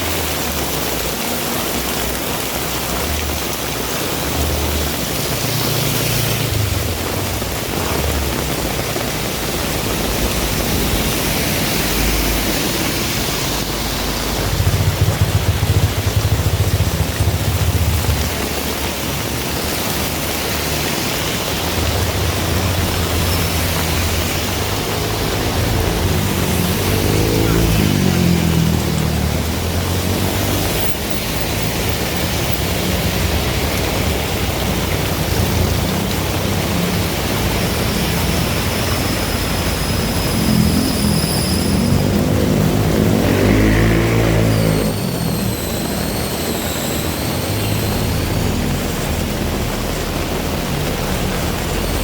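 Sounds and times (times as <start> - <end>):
heavy rain falling: 0.0 - 52.0
vehicles passing on road: 0.0 - 52.0.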